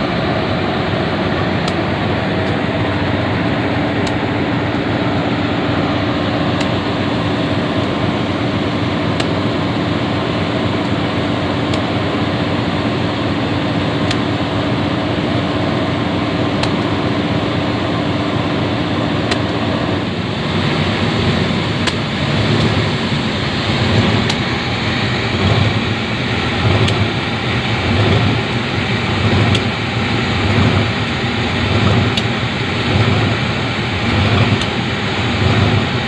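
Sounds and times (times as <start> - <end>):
diesel locomotive idling: 0.0 - 36.0
steady hum: 0.0 - 36.0.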